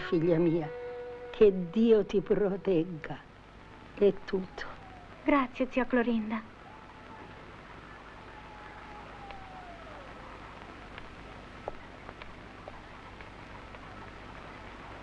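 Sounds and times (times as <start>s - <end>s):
low hiss and hum: 0.0s - 15.0s.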